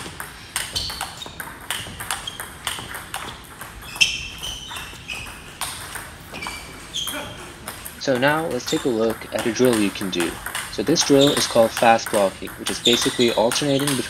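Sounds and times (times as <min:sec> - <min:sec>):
ball bouncing on table: 0:00.0 - 0:14.0
table tennis ball hitting rackets: 0:00.0 - 0:14.0.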